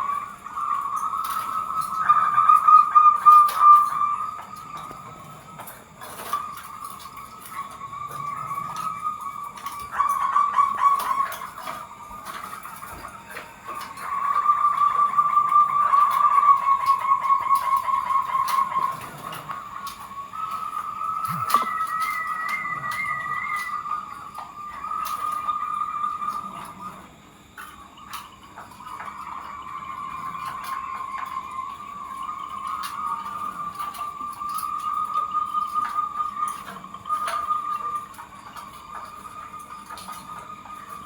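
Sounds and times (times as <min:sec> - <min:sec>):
doves cooing: 0:00.0 - 0:41.0.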